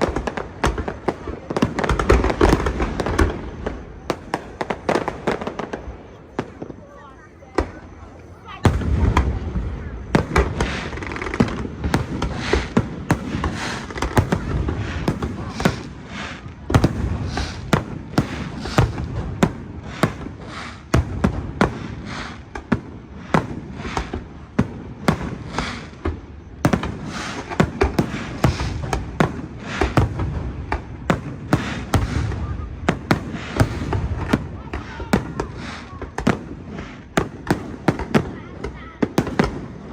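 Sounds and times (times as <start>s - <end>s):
fireworks crackle and rumble: 0.0s - 39.9s.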